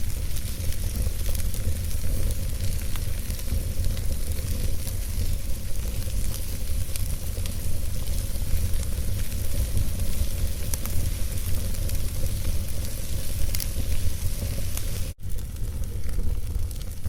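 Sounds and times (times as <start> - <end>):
wood logs burning and crackling: 0.0 - 17.0.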